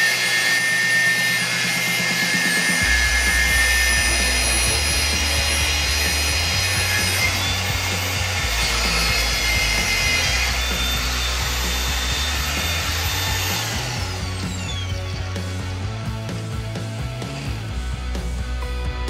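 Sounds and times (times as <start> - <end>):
angle grinder grinding tile: 0.0 - 15.9
background music: 0.0 - 19.0.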